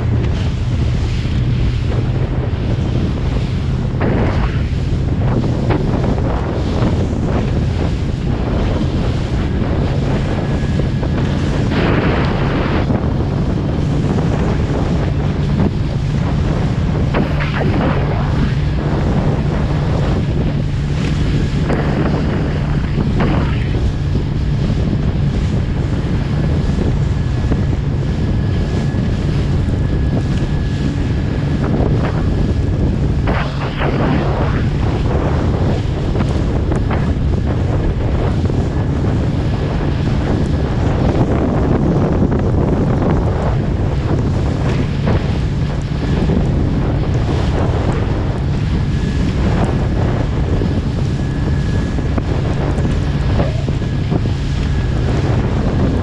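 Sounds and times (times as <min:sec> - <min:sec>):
boat engine running: 0:00.0 - 0:56.0
rush of water and spray: 0:00.0 - 0:56.0
wind buffeting microphone: 0:00.0 - 0:56.0.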